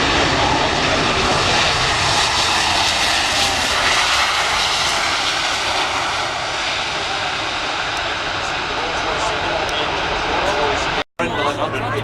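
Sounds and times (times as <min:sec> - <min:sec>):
aircraft engine roar: 0:00.0 - 0:12.0
faint engine whine: 0:00.0 - 0:12.0.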